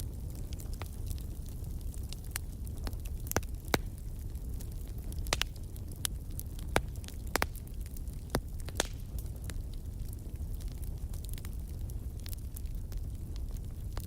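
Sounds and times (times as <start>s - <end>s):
fire crackling and popping: 0.0s - 14.0s
fire low rumble: 0.0s - 14.0s.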